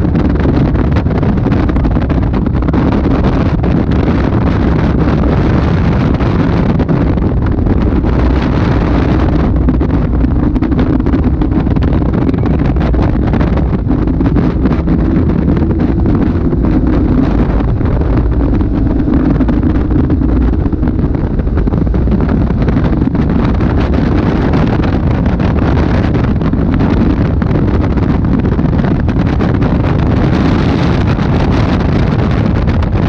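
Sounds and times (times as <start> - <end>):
car engine running at speed: 0.0 - 33.0
wind buffeting microphone: 0.0 - 33.0.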